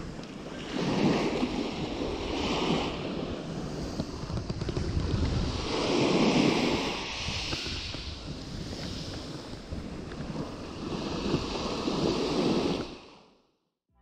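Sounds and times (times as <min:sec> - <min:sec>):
wind buffeting microphone: 0:00.0 - 0:13.0
sea waves washing ashore: 0:00.0 - 0:13.4.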